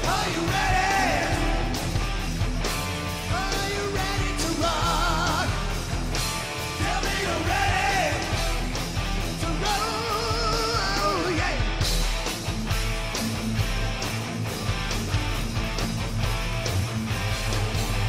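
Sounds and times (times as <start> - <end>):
hard rock band playing: 0.0 - 18.0.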